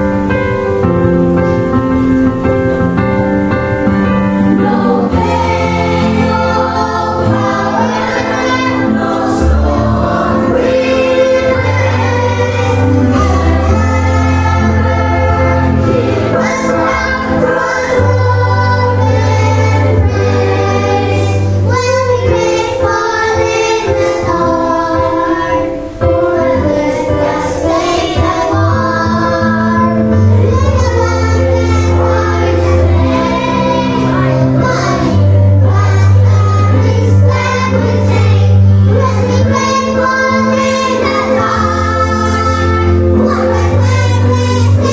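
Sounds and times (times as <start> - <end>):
children singing a hymn: 0.0 - 44.9
instrumental accompaniment: 0.0 - 44.9.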